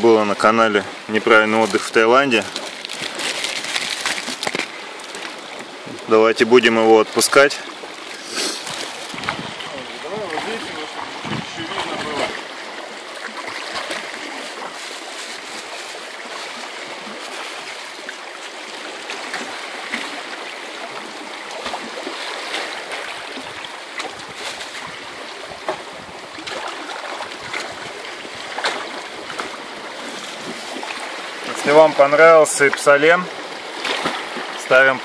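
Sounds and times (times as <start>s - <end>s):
seawater lapping around rocks: 0.0s - 35.0s
small water splashes: 0.8s - 35.0s.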